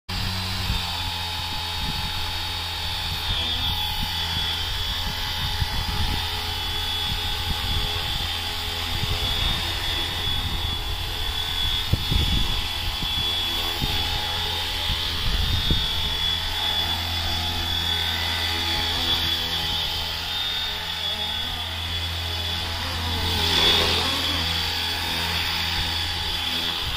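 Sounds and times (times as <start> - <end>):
electric motor whine: 0.1 - 26.9
rotor blades whirring: 0.1 - 26.9.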